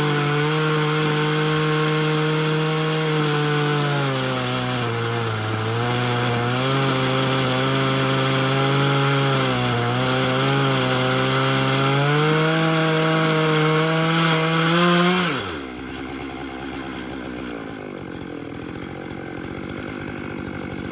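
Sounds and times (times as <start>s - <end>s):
chainsaw cutting log: 0.0s - 20.9s.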